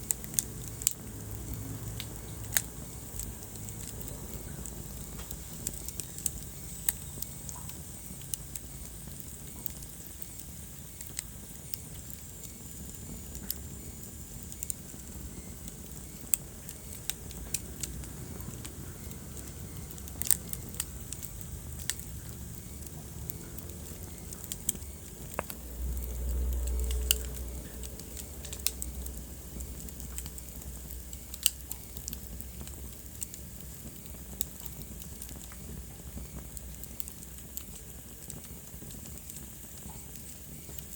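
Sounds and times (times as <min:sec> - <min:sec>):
low fire rumble: 0:00.0 - 0:40.9
wood fire crackling: 0:00.0 - 0:40.9.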